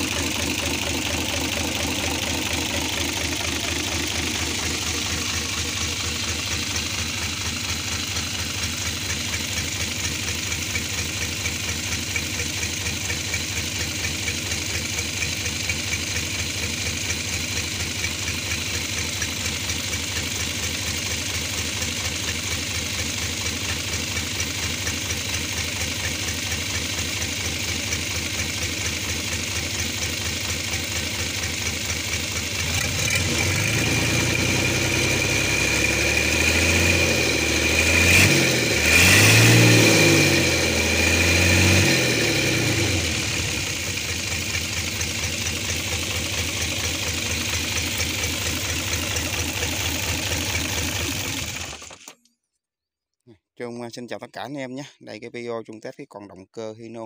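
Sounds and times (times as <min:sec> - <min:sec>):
diesel engine idling: 0:00.0 - 0:52.0
engine fan turning: 0:00.0 - 0:52.2.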